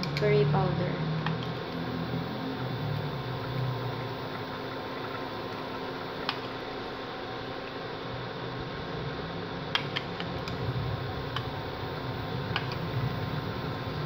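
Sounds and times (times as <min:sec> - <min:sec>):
fan hum: 0:00.0 - 0:14.0.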